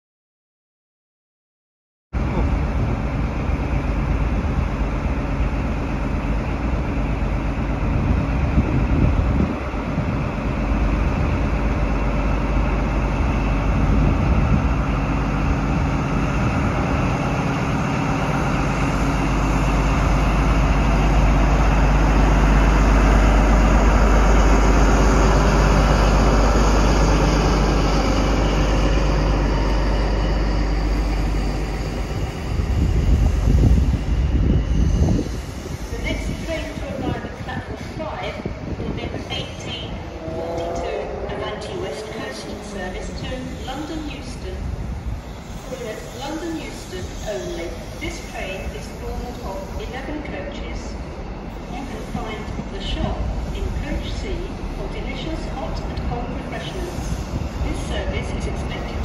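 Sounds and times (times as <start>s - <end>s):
diesel locomotive passing: 2.2s - 59.0s
train coaches rumbling: 2.2s - 59.0s.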